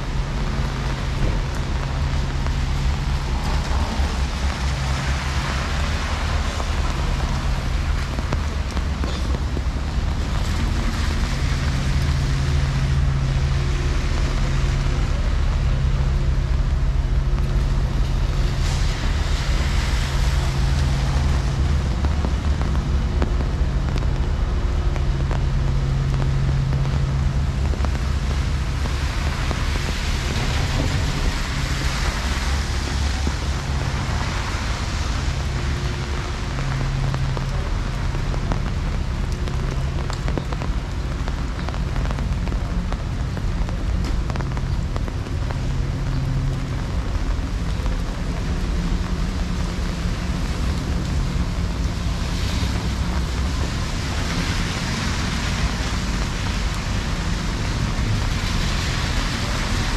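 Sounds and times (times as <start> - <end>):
engine hum: 0.0 - 59.9
road traffic rumble: 0.0 - 59.9
steady rain on street: 0.0 - 59.9.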